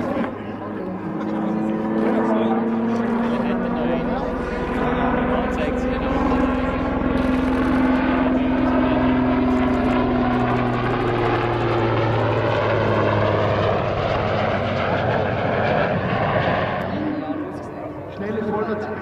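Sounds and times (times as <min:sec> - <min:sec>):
helicopter flying by: 0:00.0 - 0:19.0.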